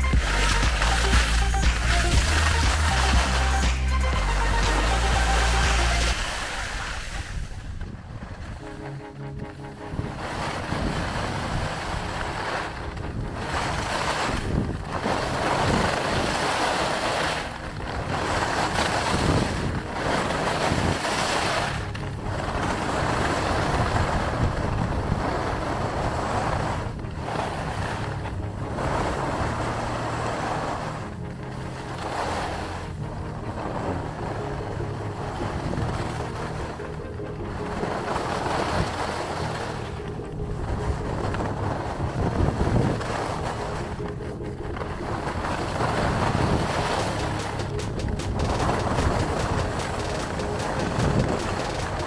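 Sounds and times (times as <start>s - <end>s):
skis scraping over snow: 0.0s - 52.0s
wind on microphone: 6.1s - 52.0s.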